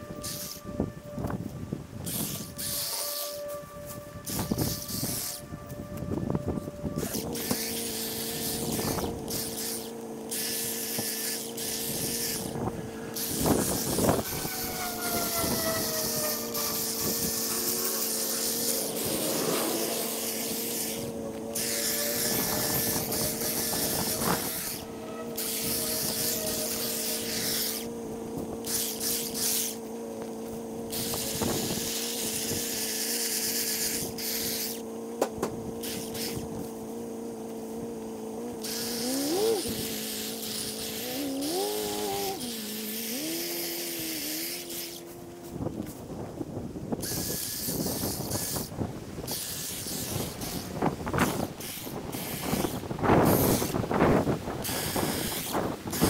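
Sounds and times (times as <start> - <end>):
high hiss of cutting: 0.0 - 0.8, 2.0 - 46.1, 46.9 - 56.0
lawn equipment engine drone: 0.0 - 56.0.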